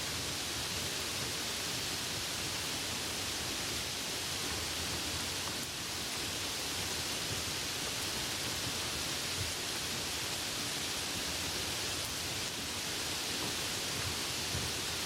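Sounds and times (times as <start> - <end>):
soft rain falling: 0.0 - 15.0.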